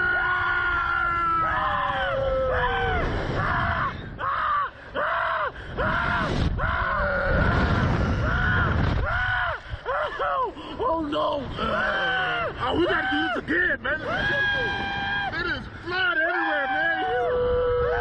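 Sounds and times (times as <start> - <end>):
people screaming: 0.0 - 18.0.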